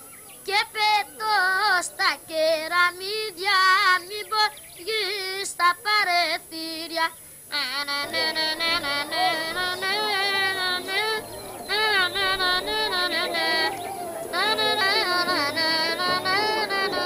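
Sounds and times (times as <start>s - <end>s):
person singing folk song: 0.5s - 17.0s.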